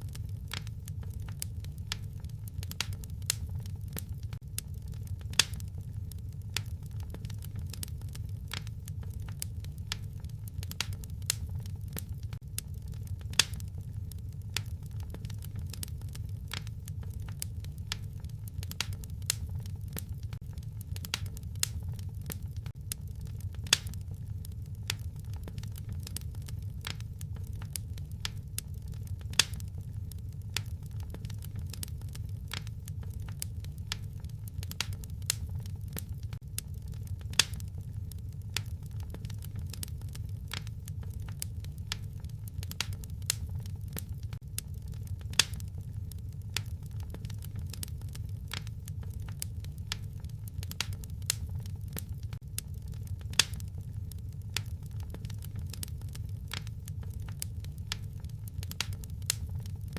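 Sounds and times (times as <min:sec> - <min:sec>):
steady low rumble: 0:00.0 - 0:59.9
wood fire crackling: 0:00.0 - 0:59.9.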